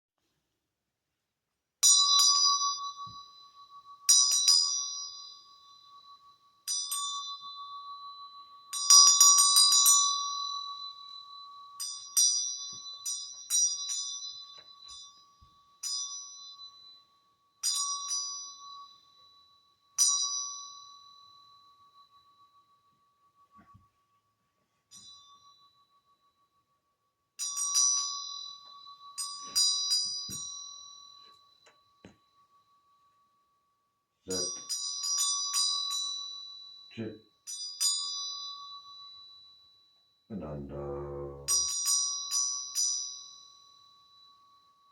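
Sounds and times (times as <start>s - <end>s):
small bell ringing: 1.8s - 44.9s.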